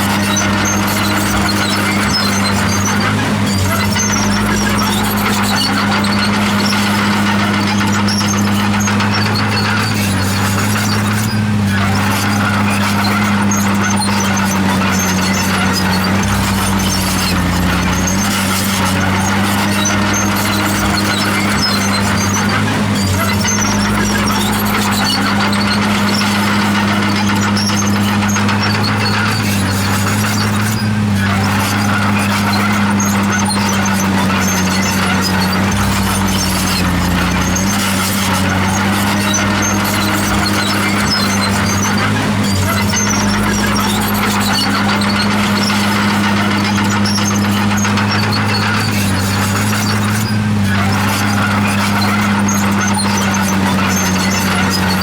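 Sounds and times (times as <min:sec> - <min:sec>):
diesel engine humming: 0:00.0 - 0:55.0
faint squeaks and clinks: 0:00.0 - 0:55.0.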